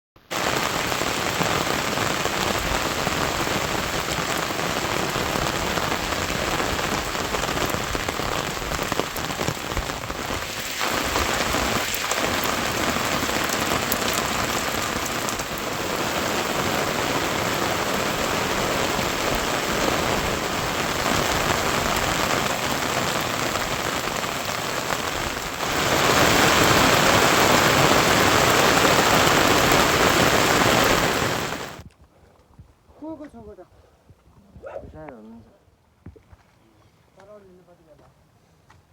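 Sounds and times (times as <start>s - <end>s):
steady rain falling: 0.2s - 31.8s.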